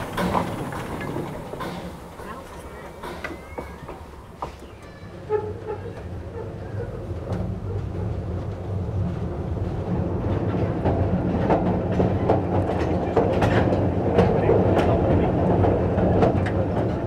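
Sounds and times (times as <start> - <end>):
train rumbling: 0.0 - 17.0
wheels clicking over rail joints: 0.0 - 17.0.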